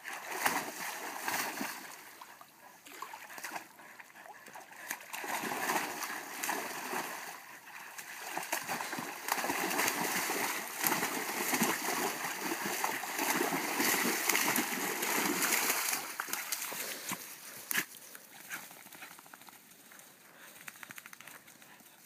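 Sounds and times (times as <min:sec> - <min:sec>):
dogs splashing through water: 0:00.0 - 0:19.6.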